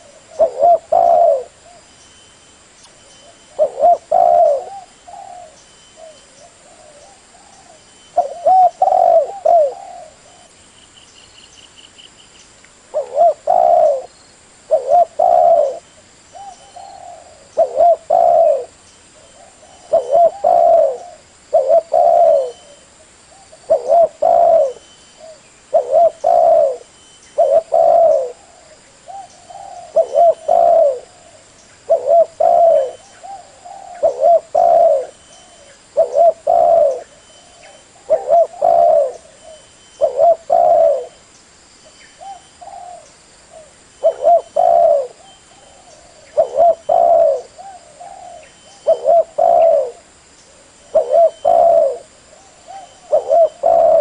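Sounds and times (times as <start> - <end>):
dove cooing: 0.0 - 1.9, 3.2 - 10.6, 12.9 - 14.1, 14.7 - 41.2, 42.2 - 54.0
high bird trill: 0.0 - 54.0.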